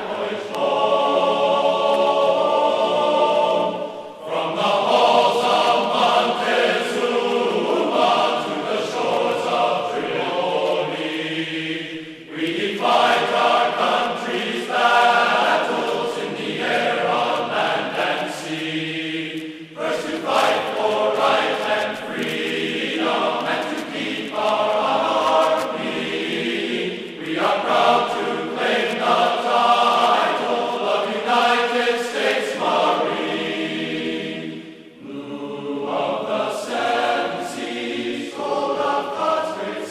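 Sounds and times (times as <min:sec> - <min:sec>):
choir-like sustained chords: 0:00.0 - 0:39.9.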